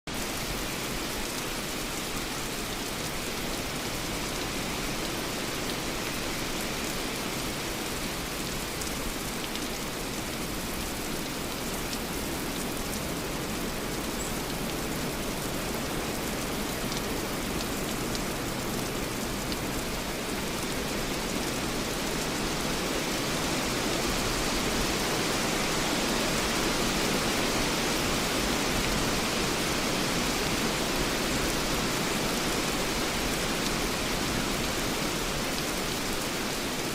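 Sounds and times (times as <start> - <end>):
light rain falling: 0.1 - 36.9.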